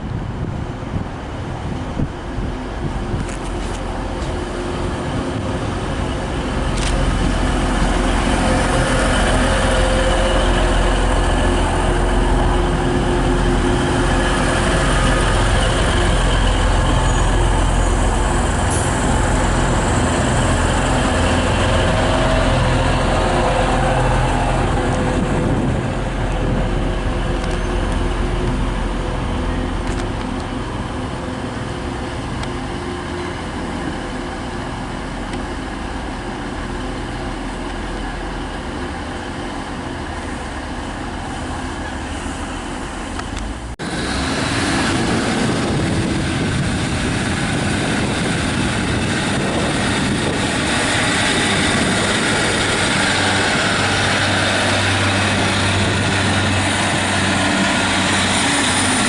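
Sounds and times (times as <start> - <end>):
train engine drone: 0.0 - 59.0
train passing: 0.0 - 59.0.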